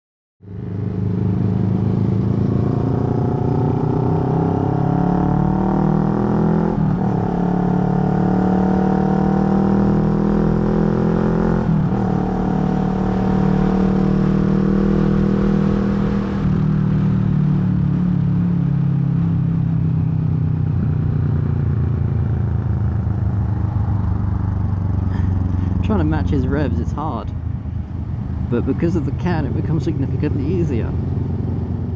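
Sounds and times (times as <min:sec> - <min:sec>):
motorcycle engine revving: 0:00.5 - 0:27.2.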